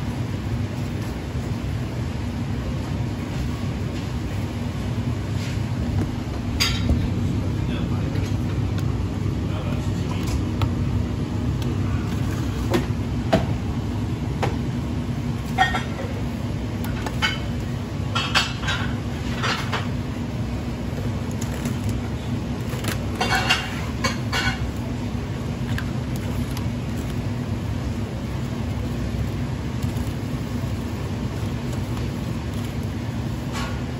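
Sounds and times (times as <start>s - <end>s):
kitchen equipment humming: 0.0s - 33.9s.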